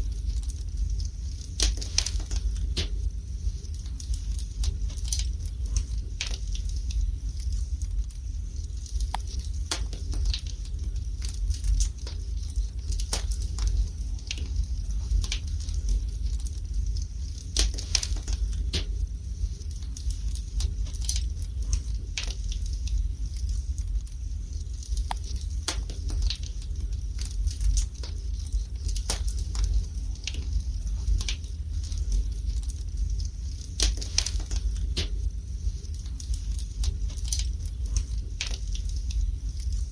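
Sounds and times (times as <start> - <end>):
low rumble of fire: 0.0 - 39.9
wood fire crackles and pops: 0.0 - 39.9.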